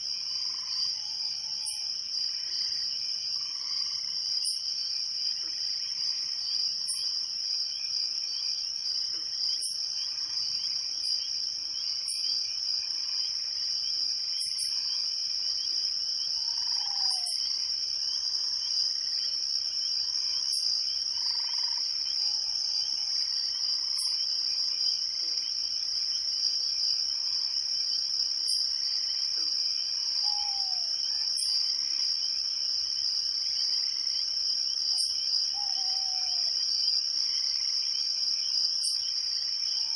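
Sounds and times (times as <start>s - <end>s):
crickets trilling: 0.0s - 39.9s
high insect chirps: 0.0s - 39.9s.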